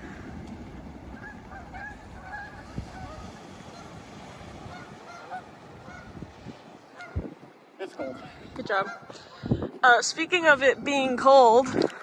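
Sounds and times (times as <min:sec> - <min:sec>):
geese honking: 0:00.0 - 0:11.6.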